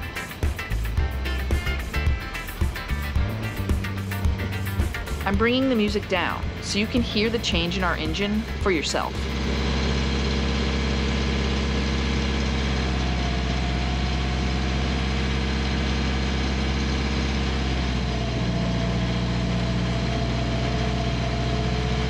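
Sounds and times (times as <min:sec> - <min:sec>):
marine diesel engine running: 0:00.0 - 0:22.0.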